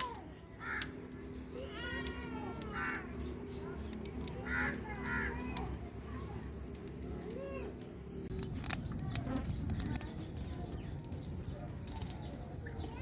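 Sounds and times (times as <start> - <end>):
birds chirping: 0.0 - 13.0
wood fire crackling and popping: 0.8 - 5.9, 6.6 - 13.0.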